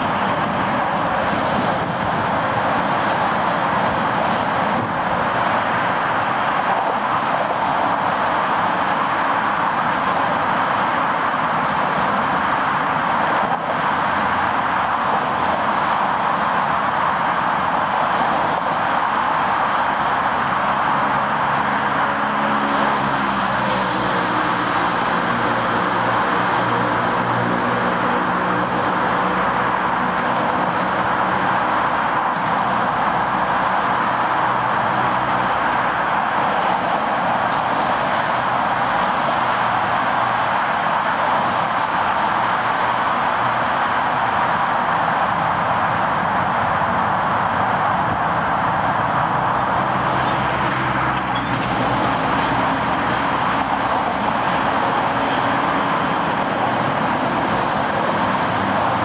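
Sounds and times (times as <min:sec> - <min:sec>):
traffic noise in tunnel: 0:00.0 - 0:59.0.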